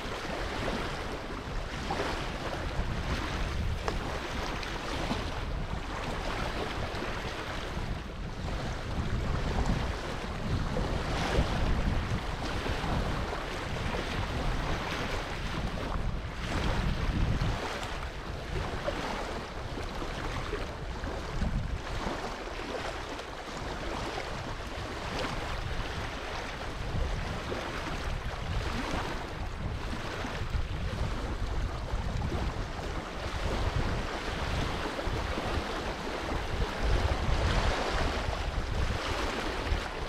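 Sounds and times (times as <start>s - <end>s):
low rumble in gusts: 0.0s - 22.4s, 23.5s - 40.0s
wind buffeting microphone: 0.0s - 40.0s.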